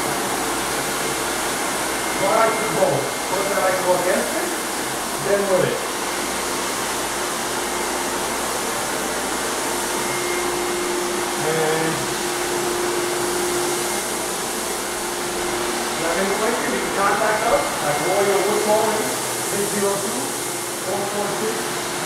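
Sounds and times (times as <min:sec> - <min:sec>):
floor buffer running: 0:00.0 - 0:22.0
steady hum: 0:00.0 - 0:22.0
vacuum running: 0:00.0 - 0:22.0.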